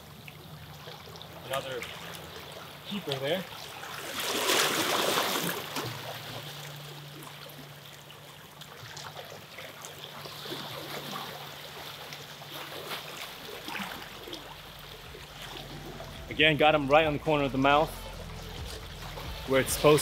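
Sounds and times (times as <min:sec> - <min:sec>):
water washing along shoreline: 0:00.0 - 0:20.0.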